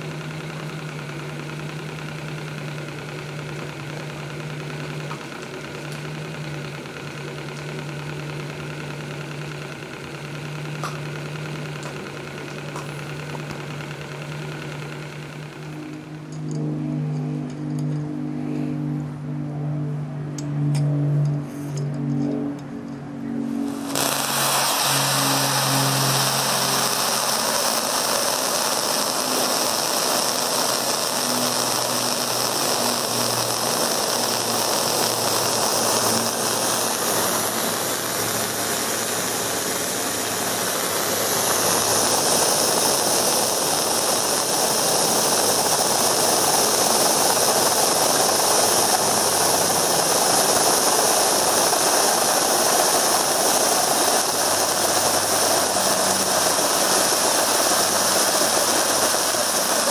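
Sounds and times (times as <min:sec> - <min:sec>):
steam hissing from valve: 0:00.0 - 0:15.9, 0:23.6 - 0:59.9.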